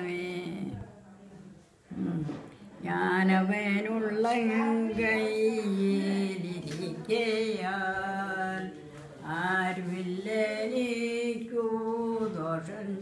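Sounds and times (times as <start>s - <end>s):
elderly woman singing unaccompanied: 0.0s - 1.0s, 1.9s - 13.0s.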